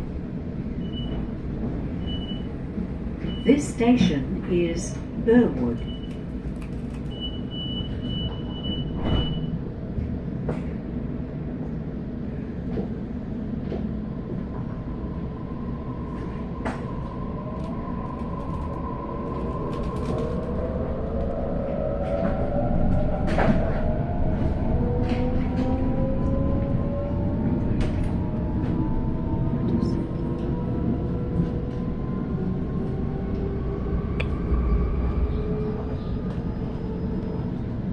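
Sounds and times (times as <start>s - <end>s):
train rumble: 0.0s - 37.9s.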